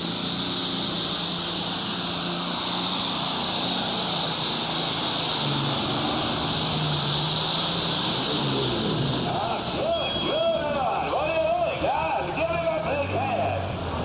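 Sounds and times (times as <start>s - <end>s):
exhaust and turbo hiss: 0.0s - 11.6s
tractor diesel engine at full power: 0.0s - 14.0s.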